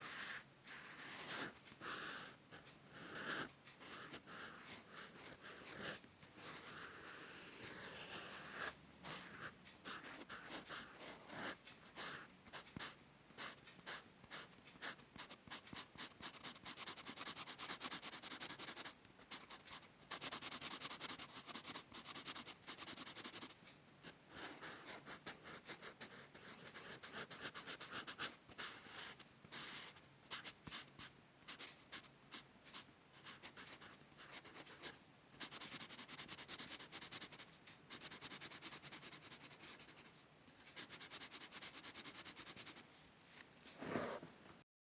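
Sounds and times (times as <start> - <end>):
drawing tool scratching paper: 0.0 - 42.8, 43.7 - 44.3.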